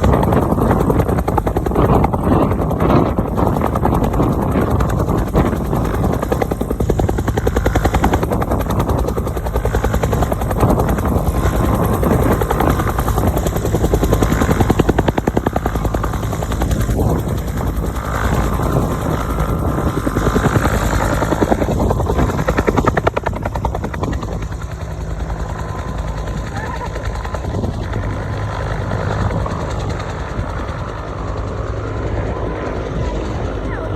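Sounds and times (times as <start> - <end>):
helicopter rotor beating: 0.0 - 33.9
turbine engine noise: 0.0 - 33.9.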